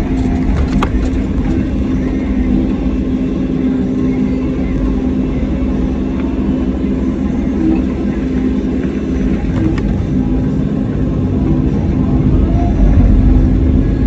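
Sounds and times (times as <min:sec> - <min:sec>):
excavator diesel engine: 0:00.0 - 0:14.0.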